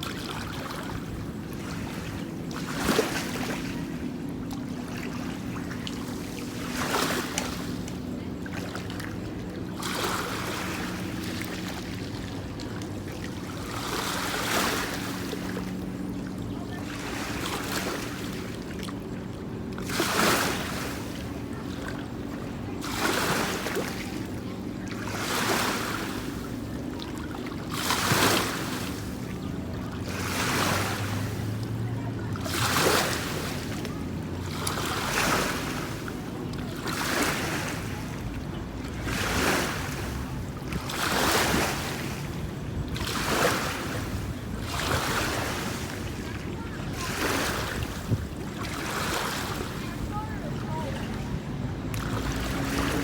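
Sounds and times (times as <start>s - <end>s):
lake waves washing onto shore: 0.0s - 53.0s.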